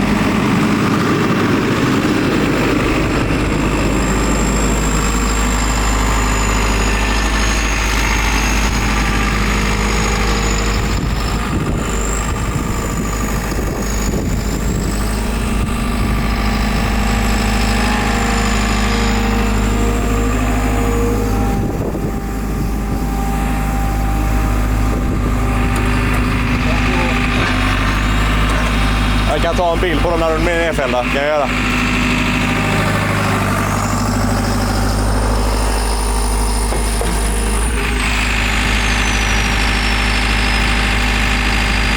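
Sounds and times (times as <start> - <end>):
high whine: 0.0 - 39.6
excavator diesel engine idling: 0.0 - 41.9.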